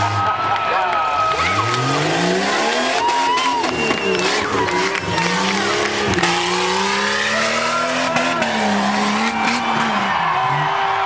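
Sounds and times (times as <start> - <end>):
car engine revving: 1.2 - 11.0.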